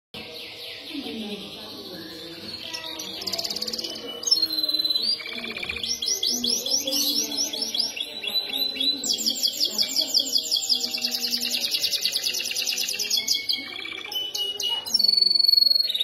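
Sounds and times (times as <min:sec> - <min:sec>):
canary singing: 0:00.2 - 0:16.0.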